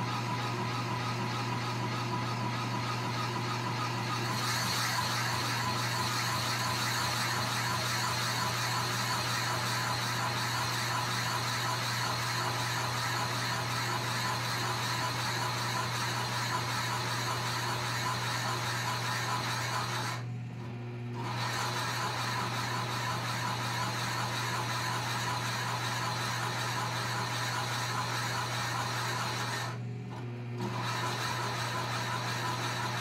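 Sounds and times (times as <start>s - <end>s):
drill press motor hum: 0.0s - 33.0s.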